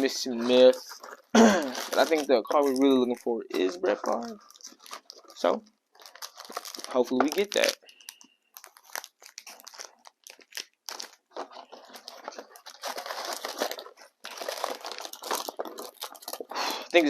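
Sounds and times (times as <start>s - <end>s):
plastic wrappers crinkling: 0.0s - 17.0s.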